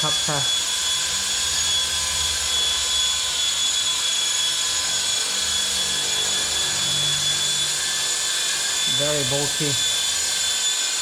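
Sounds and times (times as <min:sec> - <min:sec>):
high-pitched motor whine: 0:00.0 - 0:11.0
rotor blades rushing: 0:00.0 - 0:11.0.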